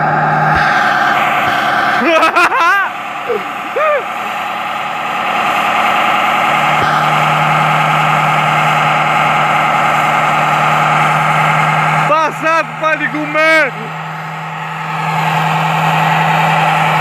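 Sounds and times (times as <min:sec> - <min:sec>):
car engine at high revs: 0:00.0 - 0:17.0
deeper steady note: 0:00.0 - 0:17.0.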